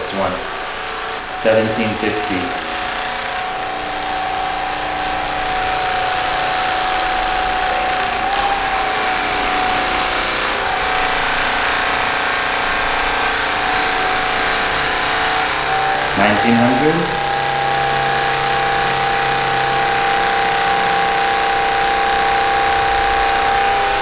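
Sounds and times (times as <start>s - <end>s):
massager motor whine: 0.0s - 24.0s.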